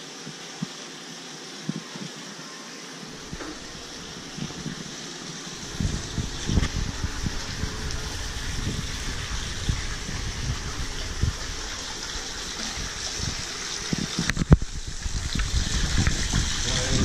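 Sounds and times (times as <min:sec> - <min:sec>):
water running into a pool: 0:00.0 - 0:17.0.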